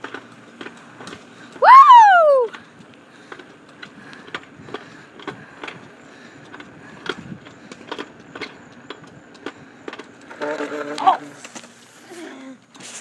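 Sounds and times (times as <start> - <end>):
small wheels rolling on pavement: 0.0 - 13.0.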